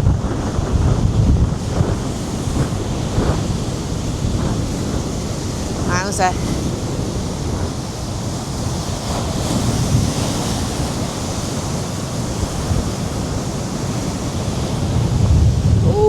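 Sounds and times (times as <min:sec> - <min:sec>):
sea waves breaking: 0:00.0 - 0:16.0
wind buffeting microphone: 0:00.0 - 0:16.0.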